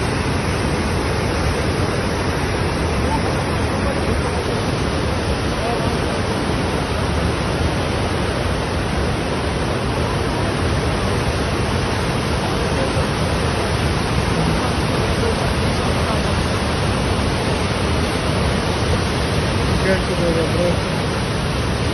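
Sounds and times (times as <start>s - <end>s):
floodwater rushing: 0.0s - 21.9s.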